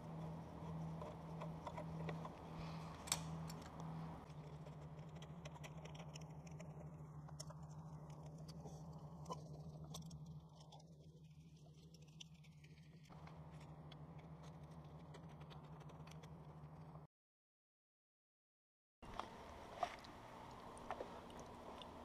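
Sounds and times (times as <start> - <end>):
steady low hum: 0.0 - 12.3, 13.0 - 17.1, 19.0 - 22.0.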